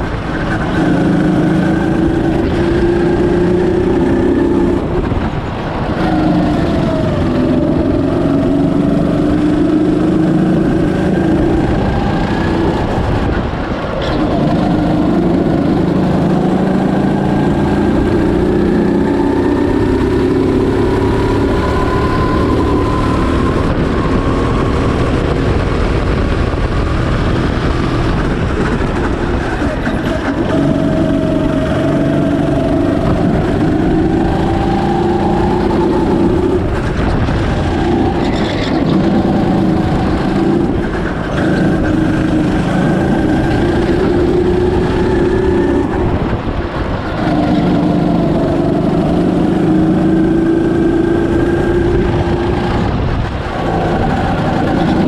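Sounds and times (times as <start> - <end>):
go-kart engine revving: 0.0 - 55.0
low rush of wind: 0.0 - 55.0.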